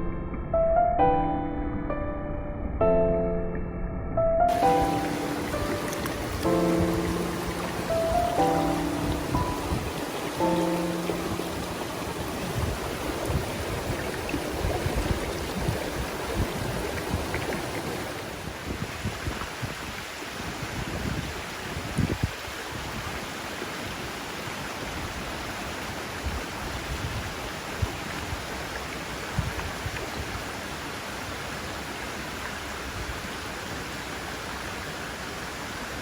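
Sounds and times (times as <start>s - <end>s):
stream water rushing: 4.5s - 36.0s.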